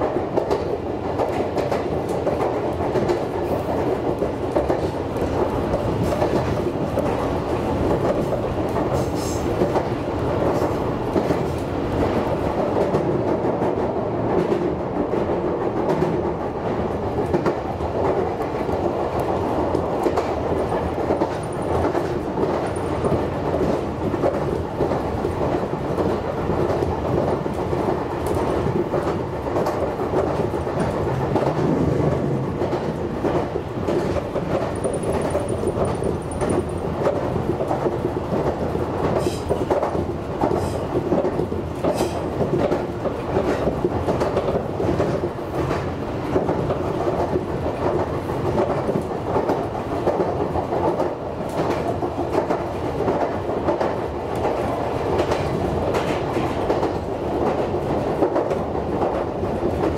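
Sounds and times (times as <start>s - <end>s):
clicking over rail joints: 0.0s - 59.9s
train wheels rumbling on rail: 0.0s - 59.9s.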